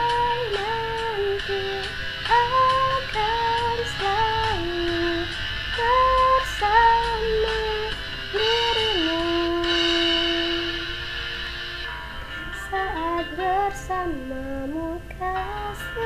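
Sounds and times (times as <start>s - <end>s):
woman singing: 0.0s - 10.9s, 12.5s - 16.0s
pop backing track: 0.0s - 16.0s.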